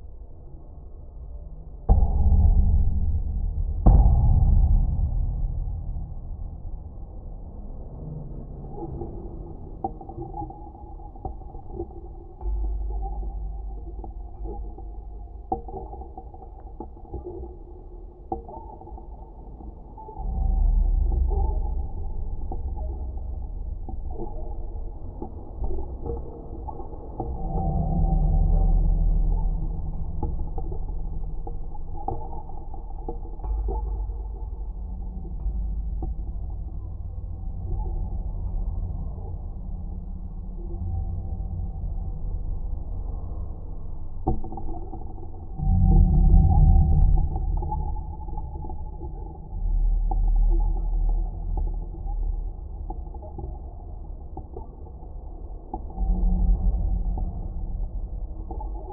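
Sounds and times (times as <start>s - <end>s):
deep underwater-style rumble: 0.0s - 58.9s
faint creaks and clicks: 8.6s - 58.9s.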